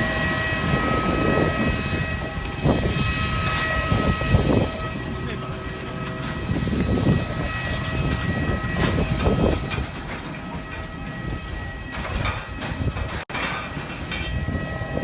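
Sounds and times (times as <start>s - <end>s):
engine and cabin air whine: 0.0s - 15.0s
landing gear rumbling on taxiway: 0.0s - 15.0s
knocks and rattles: 2.2s - 14.6s.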